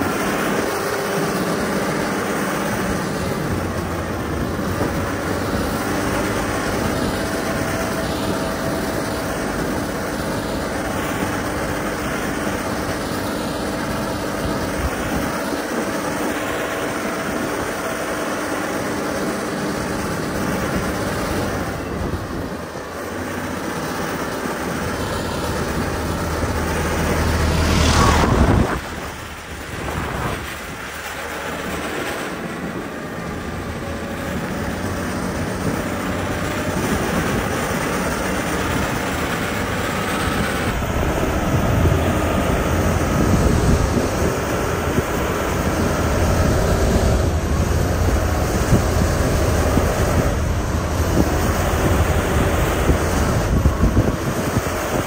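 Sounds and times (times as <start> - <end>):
diesel engine rumbling under load: 0.0 - 55.0.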